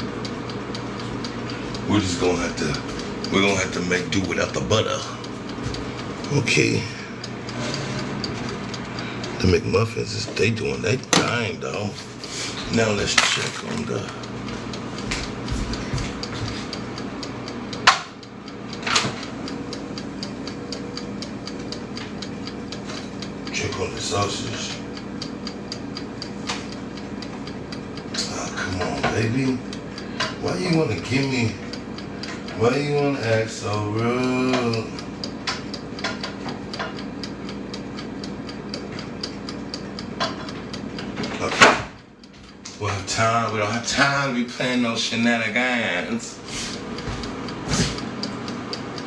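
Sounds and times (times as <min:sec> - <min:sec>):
mechanical ticking: 0:00.0 - 0:49.0.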